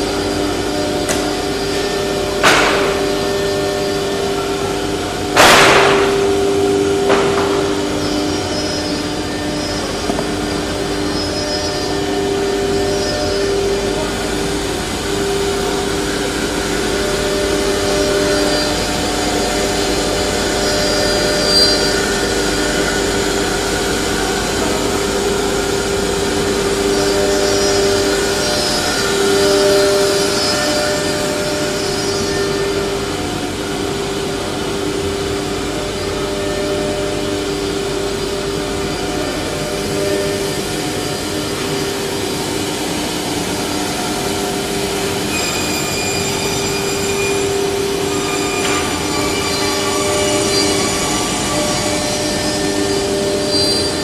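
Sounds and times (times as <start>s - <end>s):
cnc router whine: 0.0s - 54.0s.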